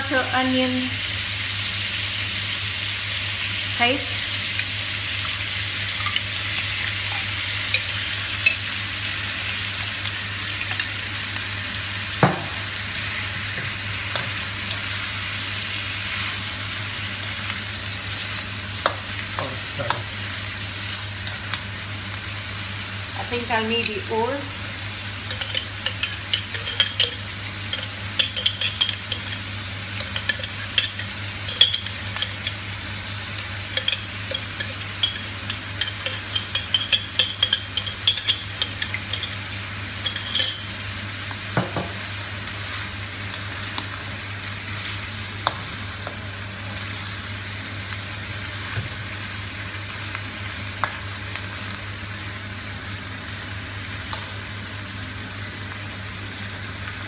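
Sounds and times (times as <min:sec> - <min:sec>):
sauce sizzling: 0:00.0 - 0:57.0.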